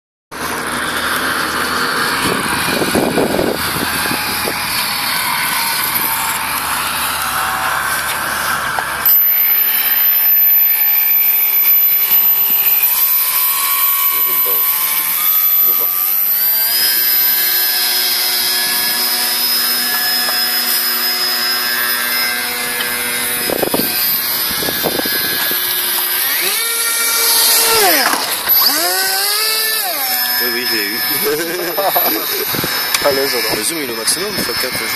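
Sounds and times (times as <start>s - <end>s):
airboat propeller whirring: 0.3s - 34.9s.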